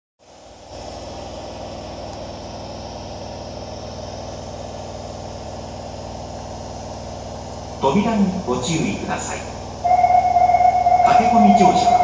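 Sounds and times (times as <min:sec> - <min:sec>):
train equipment humming with pulsing: 0:00.2 - 0:12.0.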